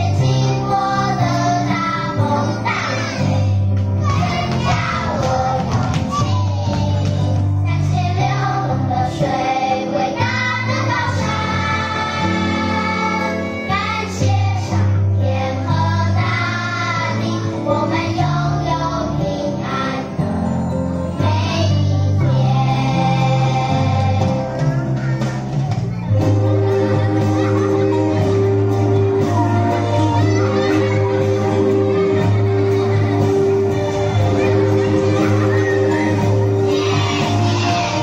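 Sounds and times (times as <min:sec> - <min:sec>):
children's song with accompaniment: 0:00.0 - 0:38.0.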